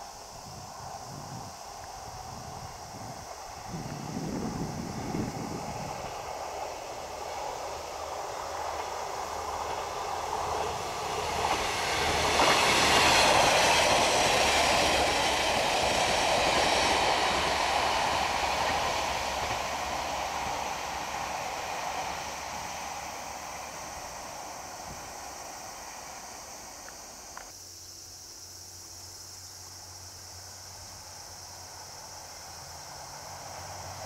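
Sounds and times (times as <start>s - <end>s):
train running on rails: 0.0s - 27.6s, 29.8s - 34.0s.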